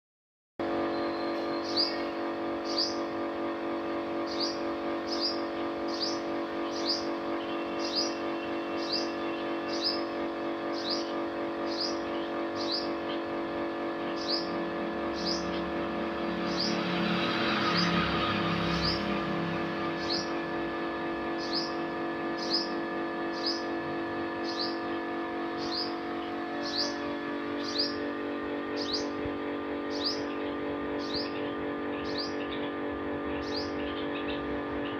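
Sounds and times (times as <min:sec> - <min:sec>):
steady low hum: 0:00.6 - 0:34.9
small bird chirping: 0:00.9 - 0:03.1, 0:04.1 - 0:20.4, 0:21.3 - 0:34.9.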